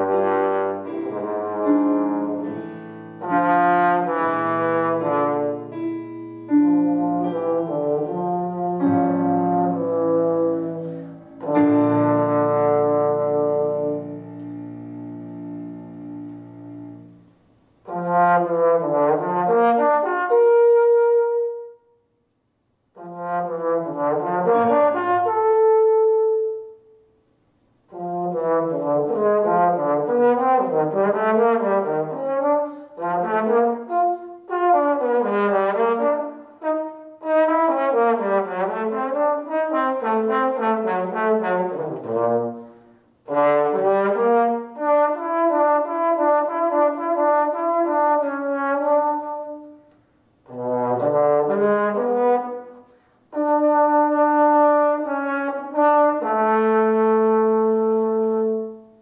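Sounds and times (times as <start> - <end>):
trombone solo: 0.0 - 14.3, 17.8 - 21.8, 22.9 - 26.8, 27.9 - 59.0.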